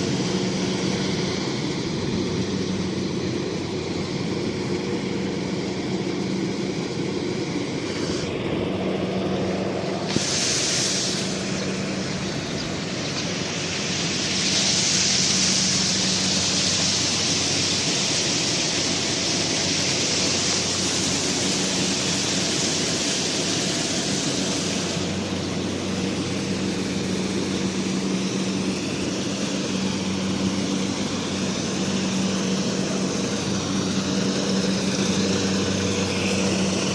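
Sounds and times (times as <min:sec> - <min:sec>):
harvester engine running: 0:00.0 - 0:36.9
steady hiss: 0:00.0 - 0:36.9.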